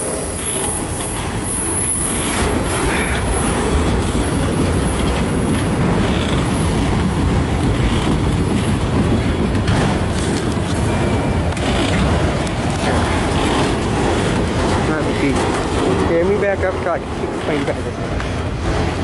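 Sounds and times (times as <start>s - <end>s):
train wheels rumbling: 0.0s - 19.0s
wheels clattering over rail joints: 0.2s - 19.0s.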